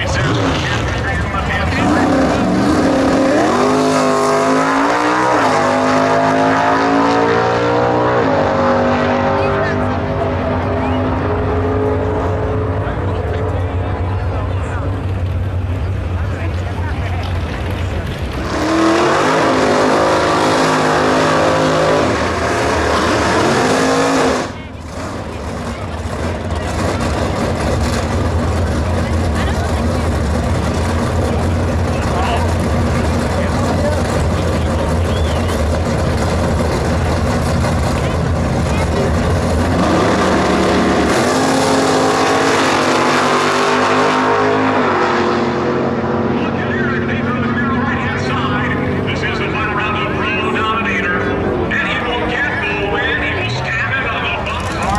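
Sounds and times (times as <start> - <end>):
car engine at full throttle: 0.0 - 54.9.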